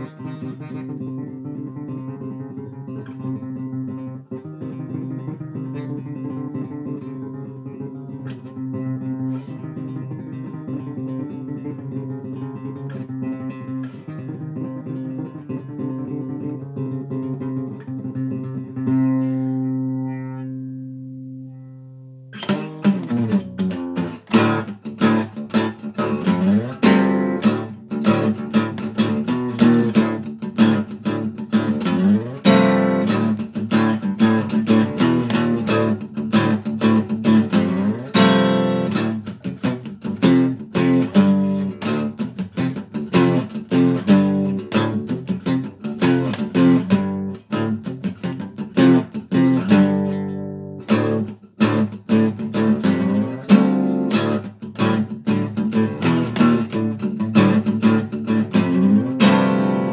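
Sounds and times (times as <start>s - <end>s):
acoustic guitar riff: 0.0s - 59.9s
strummed guitar chords: 0.0s - 59.9s.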